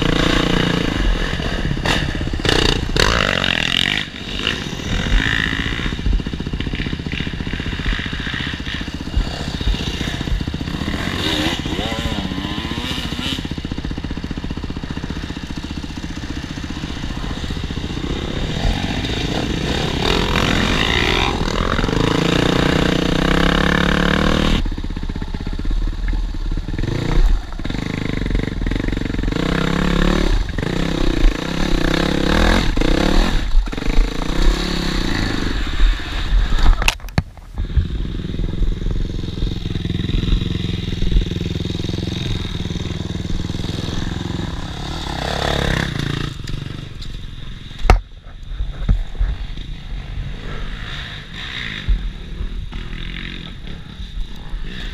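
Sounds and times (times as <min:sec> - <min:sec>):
dirt bike engine revving: 0:00.0 - 0:36.8, 0:37.6 - 0:48.0, 0:48.6 - 0:54.9.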